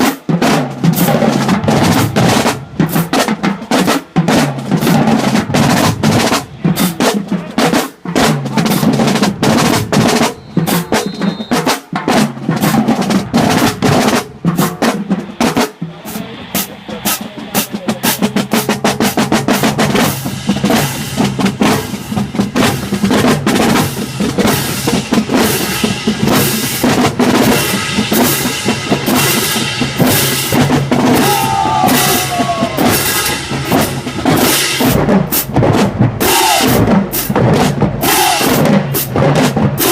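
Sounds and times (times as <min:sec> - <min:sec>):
snare and bass drumline: 0:00.0 - 0:39.9.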